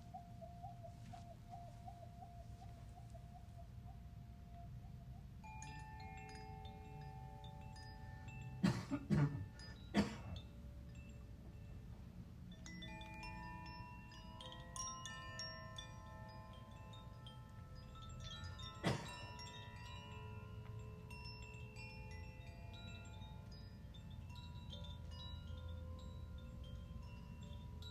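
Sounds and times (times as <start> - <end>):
chimes ringing softly: 5.4 - 27.9.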